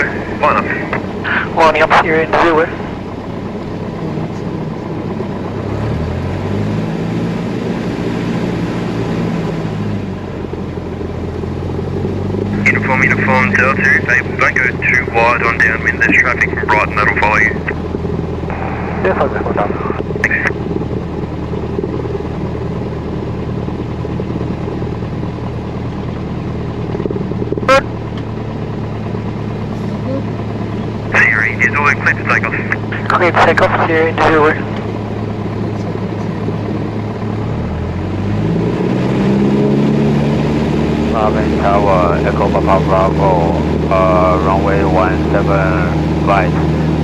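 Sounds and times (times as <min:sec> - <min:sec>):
airplane piston engine drone: 0:00.0 - 0:47.0.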